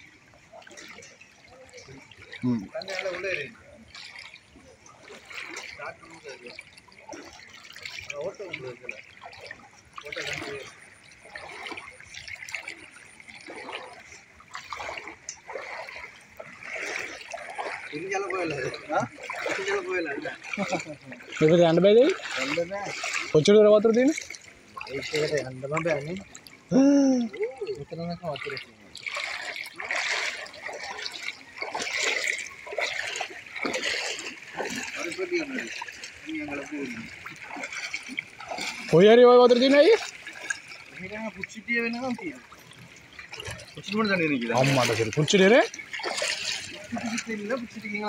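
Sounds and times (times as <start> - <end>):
feet wading through water: 0.0 - 48.0
floodwater sloshing and splashing: 0.0 - 48.0.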